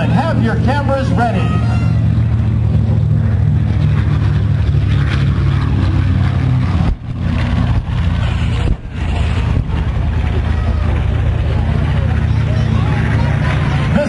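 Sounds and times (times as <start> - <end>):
piston aircraft engines droning overhead: 0.0 - 14.0.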